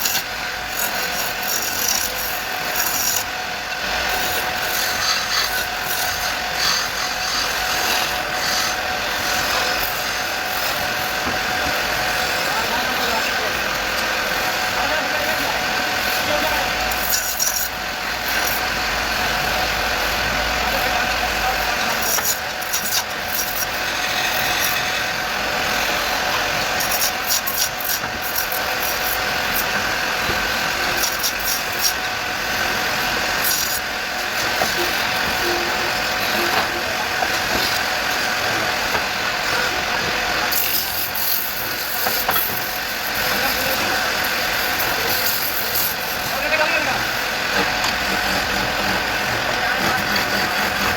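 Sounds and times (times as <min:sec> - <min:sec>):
wood lathe hum and hiss: 0:00.0 - 0:50.9.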